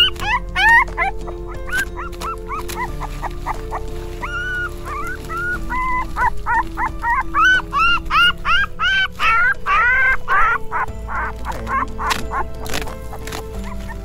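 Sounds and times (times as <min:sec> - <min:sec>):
background music with held notes: 0:00.0 - 0:14.0
puppy whimpering and yelping: 0:00.0 - 0:14.0.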